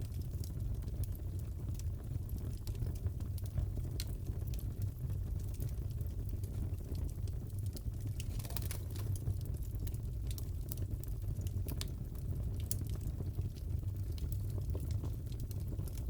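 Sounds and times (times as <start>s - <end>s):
fire popping and snapping: 0.0s - 16.0s
low rumble of burning: 0.0s - 16.0s.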